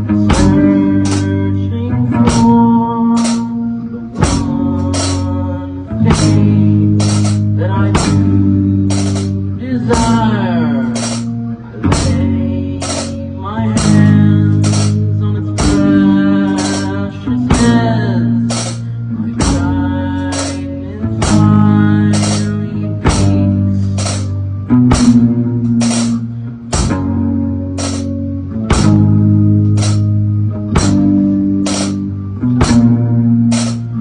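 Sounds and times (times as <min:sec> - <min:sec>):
bass guitar notes: 0:00.0 - 0:34.0
drum kit beat: 0:00.0 - 0:34.0
guitar lines: 0:00.0 - 0:34.0.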